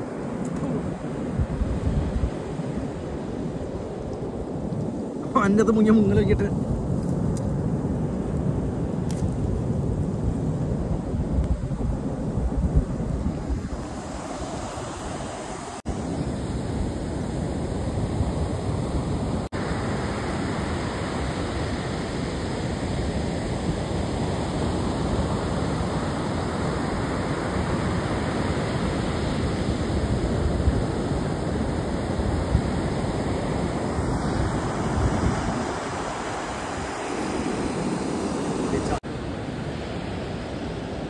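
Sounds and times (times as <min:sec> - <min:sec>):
waves breaking on beach: 0:00.0 - 0:41.0
wind on microphone: 0:00.0 - 0:41.0.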